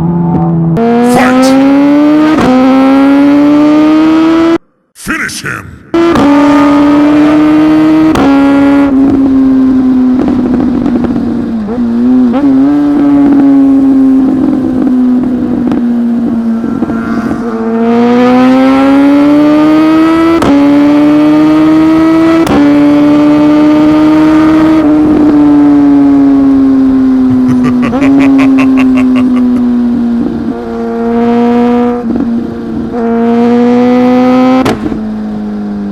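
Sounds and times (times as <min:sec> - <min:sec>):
motorcycle engine revving high: 0:00.0 - 0:04.6, 0:05.9 - 0:35.9.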